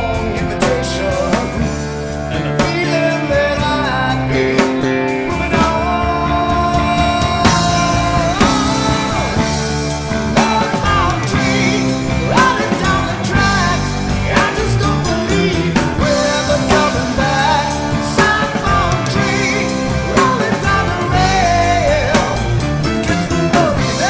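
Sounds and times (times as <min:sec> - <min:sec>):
drum kit: 0:00.0 - 0:24.0
electric guitars: 0:00.0 - 0:24.0
high bending melody line: 0:00.0 - 0:24.0.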